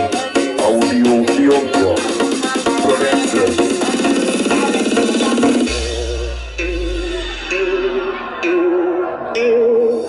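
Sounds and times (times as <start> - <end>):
music through parade sound system: 0.0 - 10.0.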